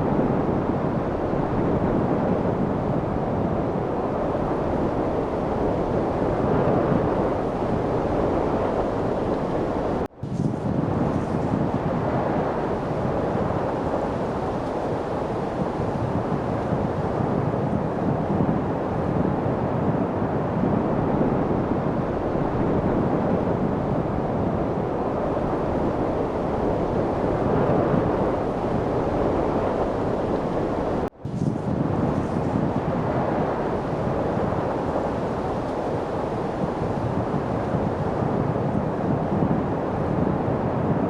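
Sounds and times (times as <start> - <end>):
light wind blowing: 0.0 - 41.0.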